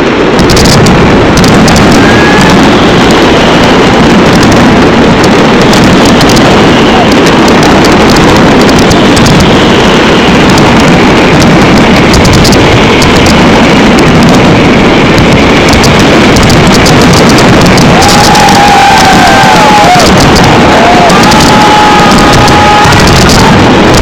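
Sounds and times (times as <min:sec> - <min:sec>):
fireworks barrage: 0:00.0 - 0:24.0
fireworks crackling: 0:00.0 - 0:24.0.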